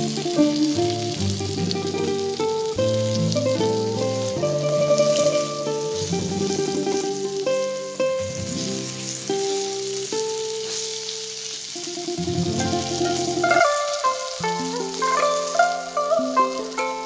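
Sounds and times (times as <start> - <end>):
grubs sizzling in hot oil: 0.0 - 17.0
instrumental background music: 0.0 - 17.0.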